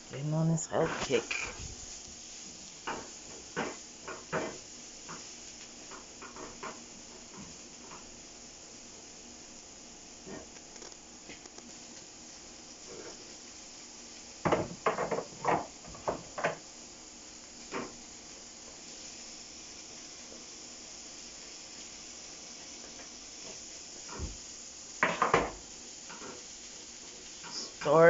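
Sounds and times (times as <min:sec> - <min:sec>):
onions sizzling in a frying pan: 0:00.0 - 0:28.0.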